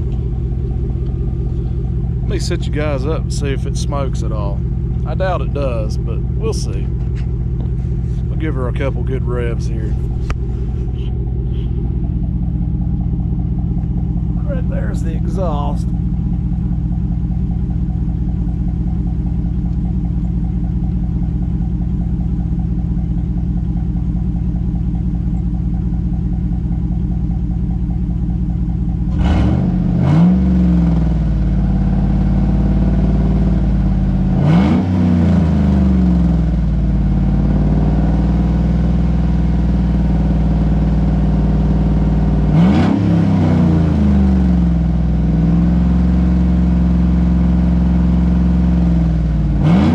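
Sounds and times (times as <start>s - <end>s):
pickup engine idling and revving: 0.0s - 49.9s.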